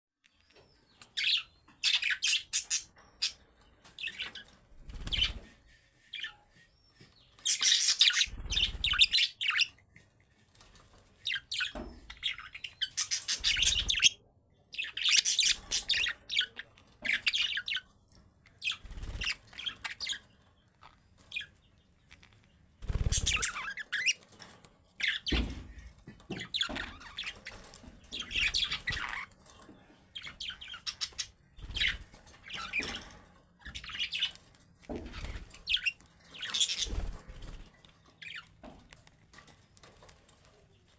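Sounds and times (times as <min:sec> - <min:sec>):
budgerigars chirping and warbling: 0:00.5 - 0:05.5, 0:07.0 - 0:09.8, 0:11.2 - 0:17.9, 0:18.5 - 0:24.3, 0:25.0 - 0:38.6.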